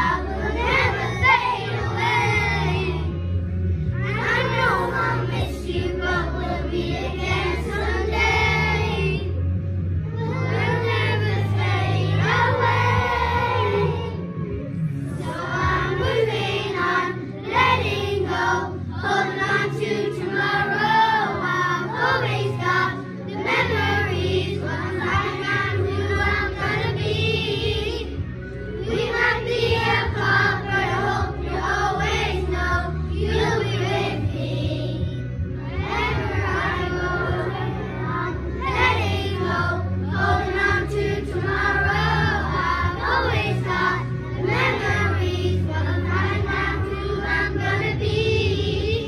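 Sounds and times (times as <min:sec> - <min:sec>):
children singing: 0:00.0 - 0:03.2, 0:04.0 - 0:09.4, 0:10.1 - 0:14.4, 0:15.2 - 0:49.0
backing track with bass: 0:00.0 - 0:49.0.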